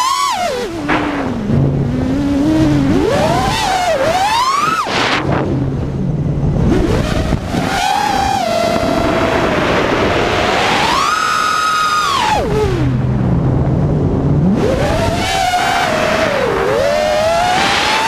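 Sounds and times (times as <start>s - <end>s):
quadcopter motors whining: 0.0s - 13.0s, 14.4s - 18.0s.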